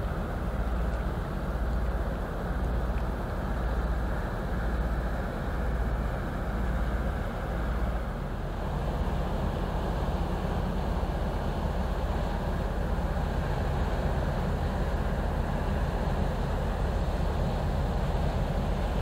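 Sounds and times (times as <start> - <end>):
ship diesel engine drone: 0.0 - 19.0.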